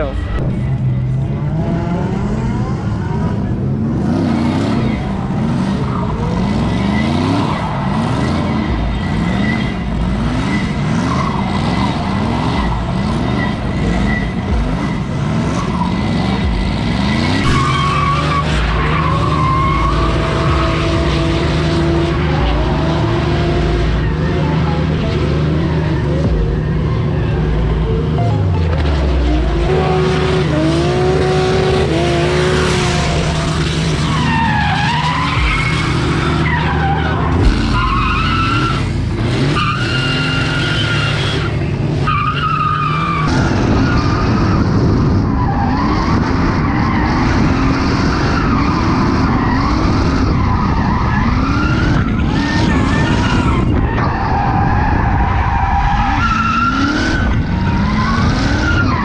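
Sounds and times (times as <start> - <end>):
car engine revving: 0.0 - 59.0
tyres skidding: 0.0 - 59.0.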